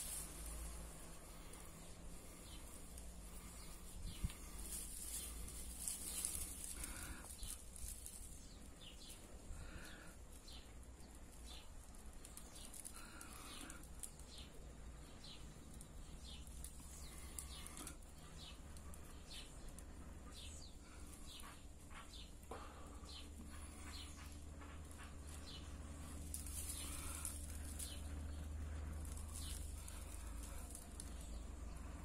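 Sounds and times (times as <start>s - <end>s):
birds chirping: 0.0s - 32.0s
dry grass rustling in hands: 0.0s - 32.0s.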